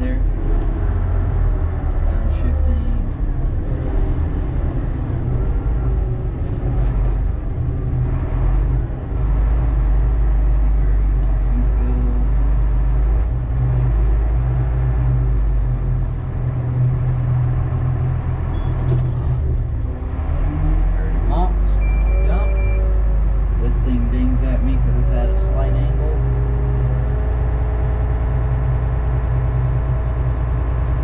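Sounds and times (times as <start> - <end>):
haul truck diesel engine droning: 0.0 - 31.0.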